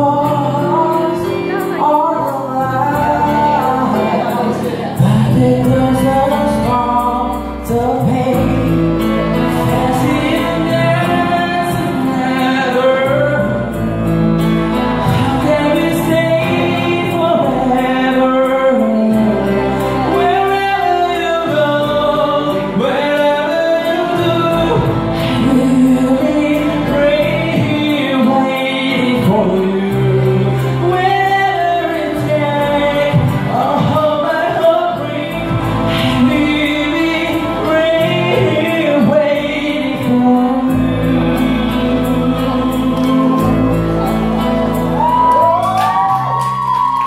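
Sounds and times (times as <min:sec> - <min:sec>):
instrumental backing music: 0:00.0 - 0:47.0
man singing into microphone: 0:00.0 - 0:47.0.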